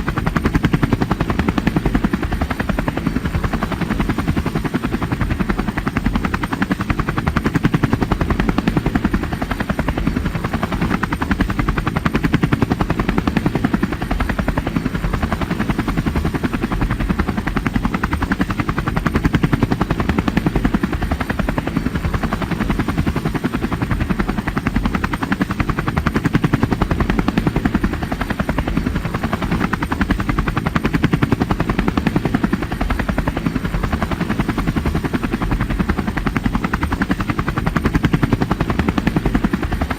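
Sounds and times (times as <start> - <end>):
helicopter engine drone: 0.0 - 39.9.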